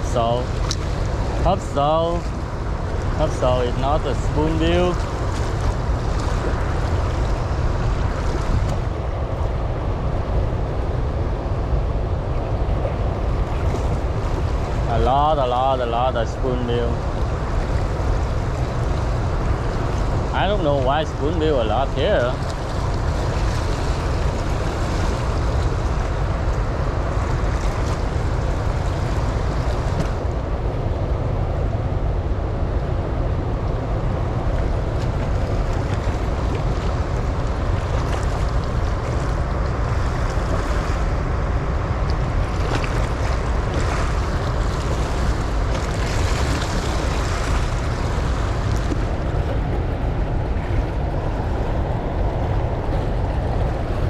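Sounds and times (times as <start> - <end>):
water roaring through flood gates: 0.0 - 9.3, 12.7 - 54.0.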